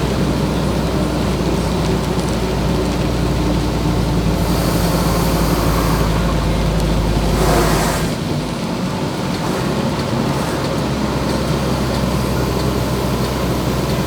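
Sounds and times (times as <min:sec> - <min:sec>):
road and rain noise: 0:00.0 - 0:14.0
truck engine droning: 0:00.0 - 0:14.0.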